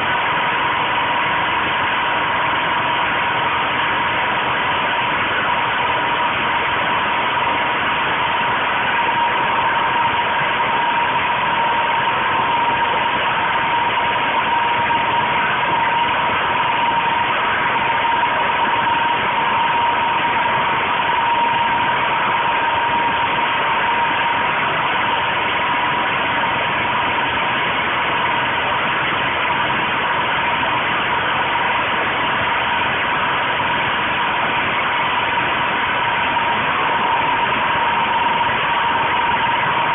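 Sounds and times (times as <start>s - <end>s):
constant whine: 0.0s - 39.9s
portable generator running: 0.0s - 39.9s.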